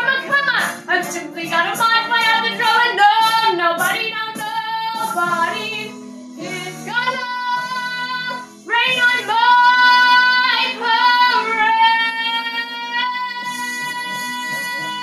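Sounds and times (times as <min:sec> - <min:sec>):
backing track music: 0:00.0 - 0:15.0
person singing: 0:00.0 - 0:15.0.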